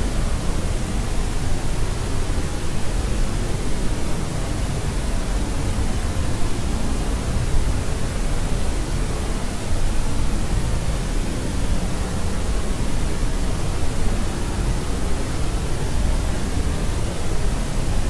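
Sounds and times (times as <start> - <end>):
low white noise hiss: 0.0 - 18.0.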